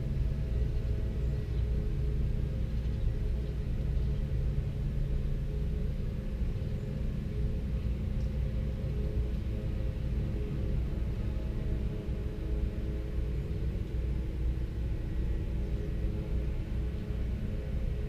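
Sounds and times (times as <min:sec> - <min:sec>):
low rumble with deep tones: 0:00.0 - 0:18.0.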